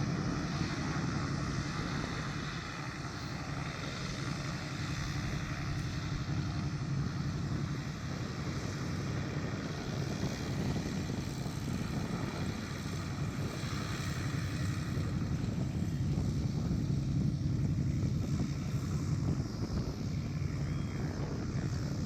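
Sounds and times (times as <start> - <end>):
propeller plane engine running: 0.0 - 22.0.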